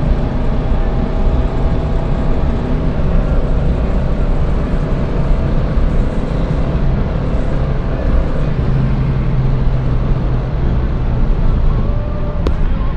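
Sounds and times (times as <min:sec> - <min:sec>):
car engine accelerating: 0:00.0 - 0:12.9
road and wind noise: 0:00.0 - 0:12.9.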